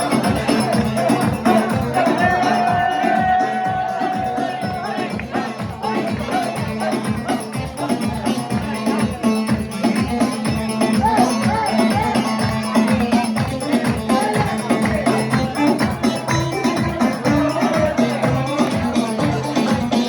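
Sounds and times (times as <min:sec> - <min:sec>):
held bass line: 0:00.0 - 0:20.0.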